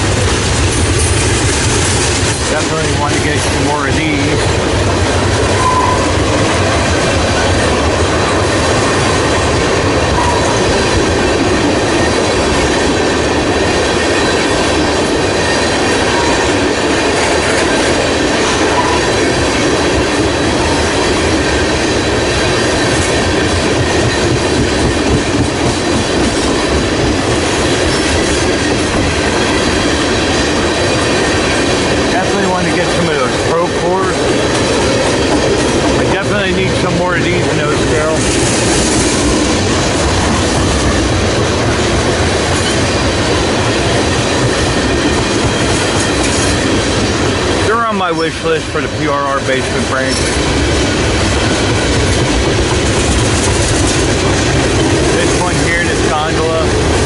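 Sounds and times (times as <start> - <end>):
steel train wheels rumbling on rails: 0.0 - 57.0.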